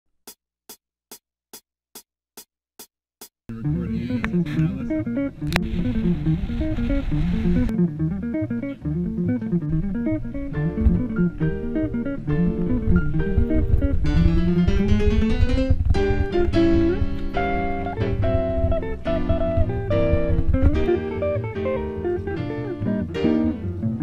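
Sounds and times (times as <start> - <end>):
band track with bass and guitar: 3.5 - 24.0.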